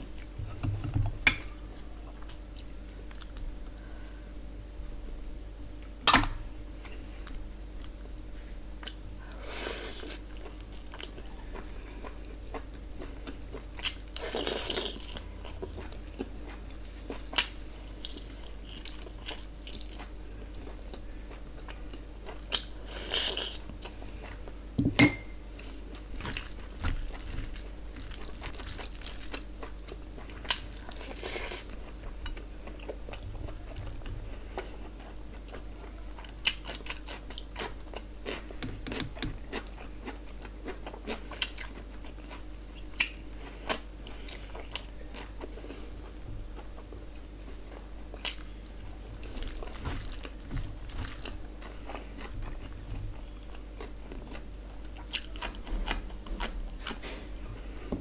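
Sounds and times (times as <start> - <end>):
faint low hum: 0.0 - 58.0
person chewing and biting food: 8.8 - 24.6, 25.6 - 57.9.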